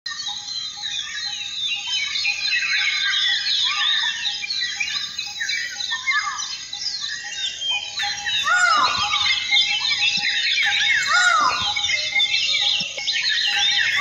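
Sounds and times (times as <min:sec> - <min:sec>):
loud bird calls: 0:00.1 - 0:14.0
small birds chirping and whistling: 0:00.1 - 0:14.0.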